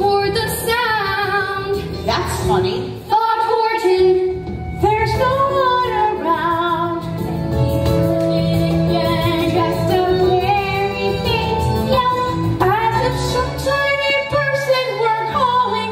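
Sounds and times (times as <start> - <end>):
instrumental accompaniment: 0.0 - 15.9.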